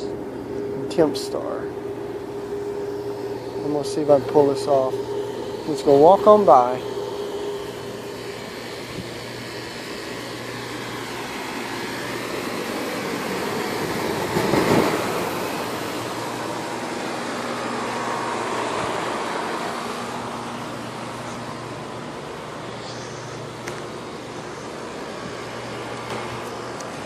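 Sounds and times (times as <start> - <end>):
fans blowing: 0.0 - 27.0
low compressor hum: 0.0 - 27.0.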